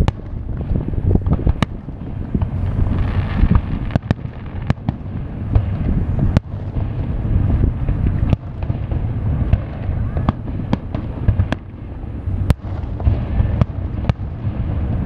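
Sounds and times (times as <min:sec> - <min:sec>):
firework bangs: 0:00.0 - 0:15.0
firework crackling: 0:00.0 - 0:15.0
low rumble: 0:00.0 - 0:15.0.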